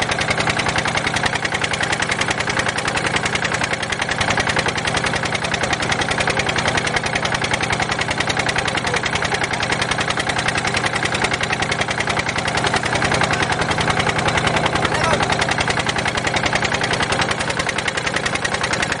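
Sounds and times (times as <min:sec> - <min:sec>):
engine chugging: 0:00.0 - 0:19.0.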